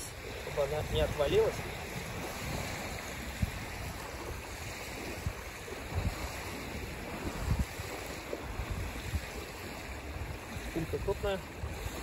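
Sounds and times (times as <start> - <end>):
small waves on pebbly shore: 0.0 - 12.0
wind buffeting microphone: 0.0 - 12.0.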